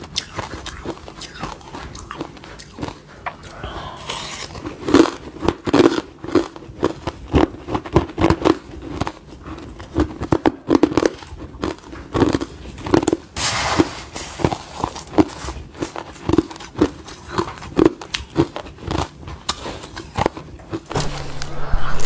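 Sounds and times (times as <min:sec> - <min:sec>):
ice crunching between teeth: 0:00.0 - 0:13.3, 0:14.2 - 0:21.4.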